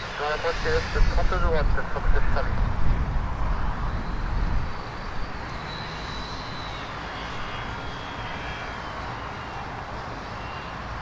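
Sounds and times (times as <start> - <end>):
jet engine rumble with whine: 0.0 - 11.0.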